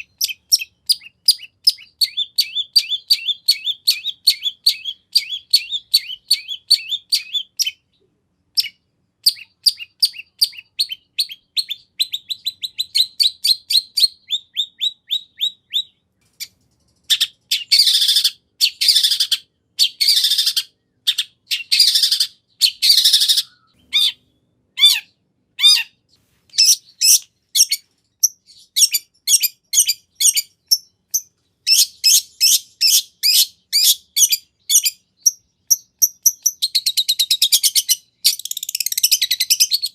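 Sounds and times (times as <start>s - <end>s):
bird singing chirps and trills: 0.0s - 39.9s
harsh rasping bird calls: 0.0s - 39.9s.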